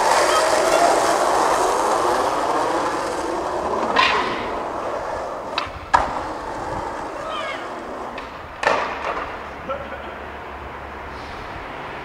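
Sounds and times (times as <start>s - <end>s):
skateboard clacks: 0.0s - 10.5s
skateboard wheels rolling on asphalt: 0.0s - 12.0s.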